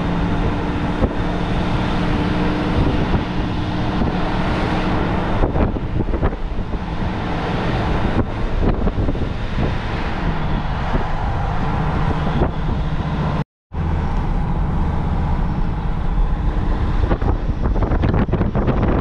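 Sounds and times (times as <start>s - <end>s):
engine and road rumble: 0.0s - 19.0s
wind buffeting microphone: 0.0s - 19.0s.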